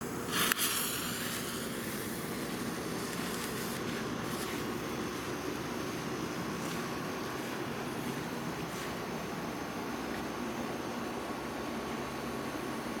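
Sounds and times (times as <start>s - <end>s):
fuse hissing: 0.0s - 12.9s
fuse fizzing: 0.2s - 11.2s.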